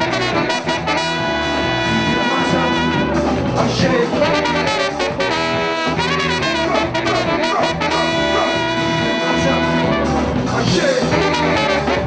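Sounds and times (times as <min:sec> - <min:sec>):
brass section playing: 0:00.0 - 0:12.0
percussion groove: 0:00.0 - 0:12.0.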